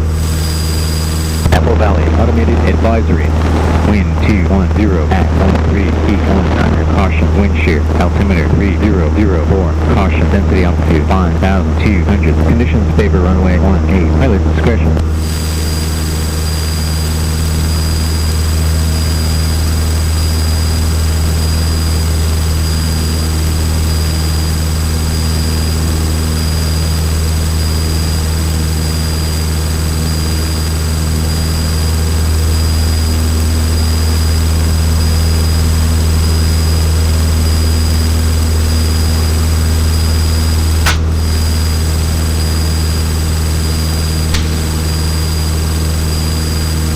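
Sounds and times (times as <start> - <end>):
propeller aircraft engine drone: 0.0 - 46.9.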